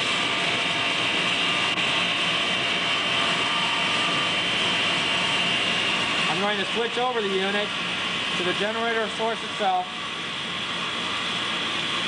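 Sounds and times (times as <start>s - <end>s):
high-pitched motor whine: 0.0s - 12.0s
motor generator humming: 0.0s - 12.0s.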